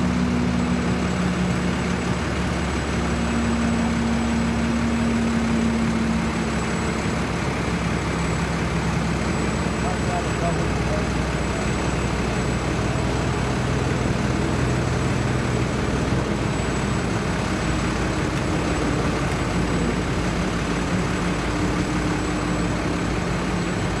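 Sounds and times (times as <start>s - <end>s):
heavy machinery engine humming: 0.0s - 24.0s.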